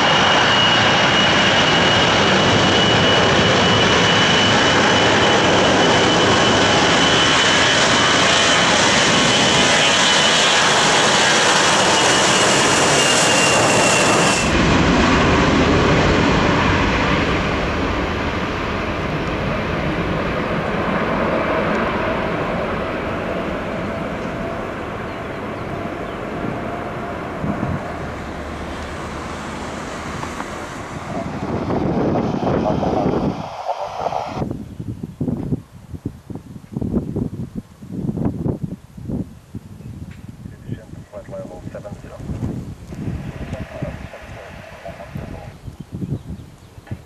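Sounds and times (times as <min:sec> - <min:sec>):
jet engines whining: 0:00.0 - 0:34.5, 0:40.6 - 0:45.7
deep jet rumble: 0:00.0 - 0:47.0.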